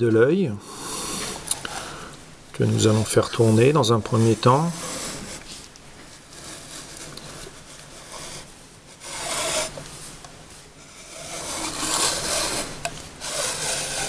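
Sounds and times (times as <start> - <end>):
plastic scraping on plastic: 2.6 - 14.0.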